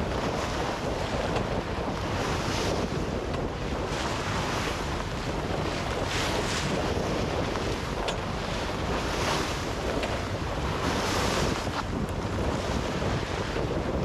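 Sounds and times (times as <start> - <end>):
waves washing along hull: 0.0 - 14.0
wind buffeting microphone: 0.0 - 14.0.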